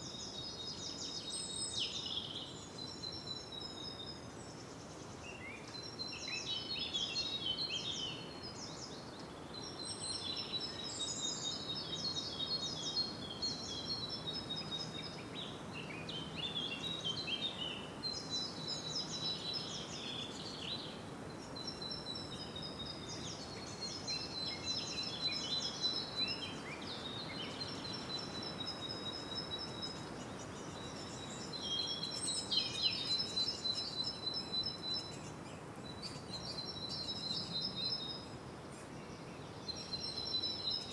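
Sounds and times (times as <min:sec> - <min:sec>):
birds chirping and trilling: 0:00.0 - 0:40.9
steady background hiss: 0:00.0 - 0:40.9.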